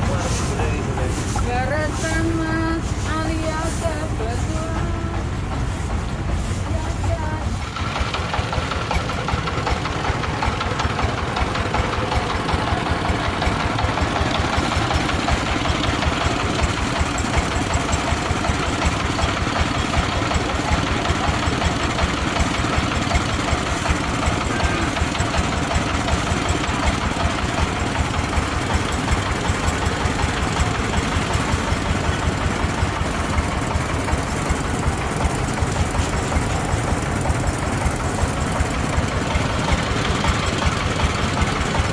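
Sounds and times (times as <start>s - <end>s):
broad rushing noise: 0.0s - 41.9s
threshing machine engine chugging: 0.0s - 41.9s.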